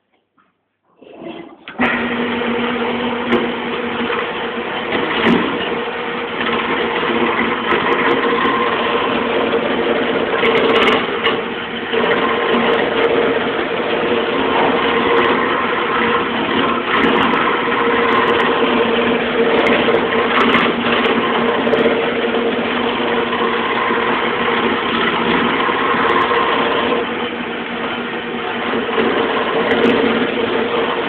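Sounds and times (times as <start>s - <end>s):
gouge scraping spinning wood: 1.1s - 31.0s
wood lathe motor humming: 1.1s - 31.0s.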